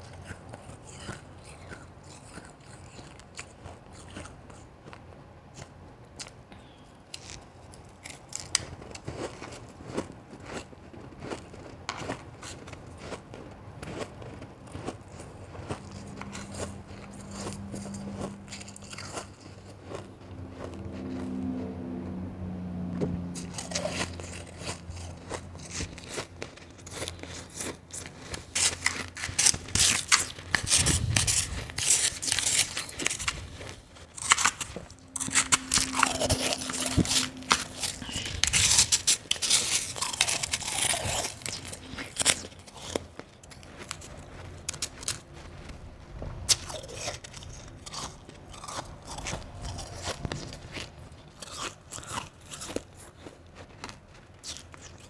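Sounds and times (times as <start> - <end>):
person chewing crunchy ice: 0.0 - 22.0, 23.2 - 55.0.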